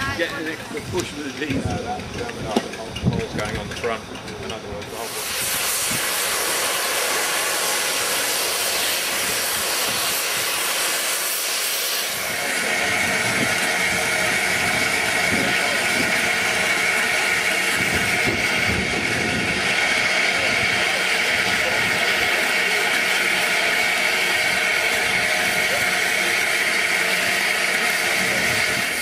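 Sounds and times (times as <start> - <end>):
steam hissing from locomotive: 4.8 - 29.0.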